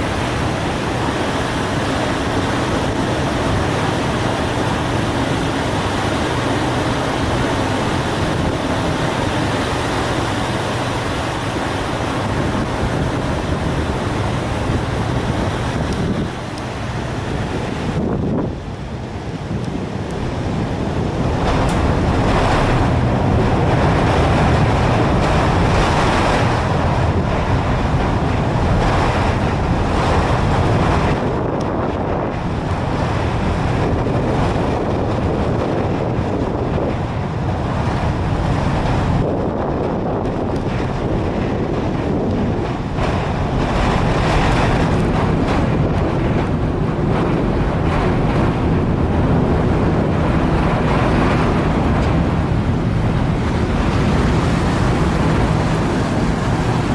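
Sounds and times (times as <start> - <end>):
ferry engines droning: 0.0 - 56.9
wind buffeting microphone: 0.0 - 56.9.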